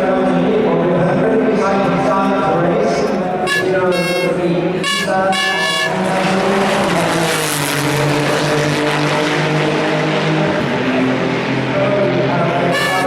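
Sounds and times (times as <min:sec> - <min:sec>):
racing car engine passing: 0:01.5 - 0:13.0.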